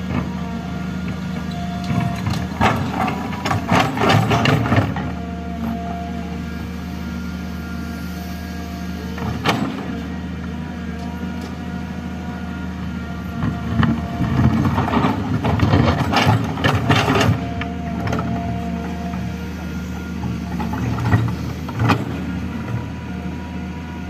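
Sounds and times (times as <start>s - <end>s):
excavator and truck diesel engines: 0.0s - 24.0s.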